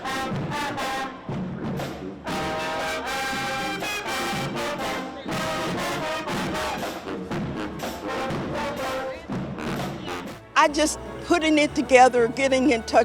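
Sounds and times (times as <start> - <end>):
brass playing sustained chords: 0.0 - 1.3, 2.2 - 13.0.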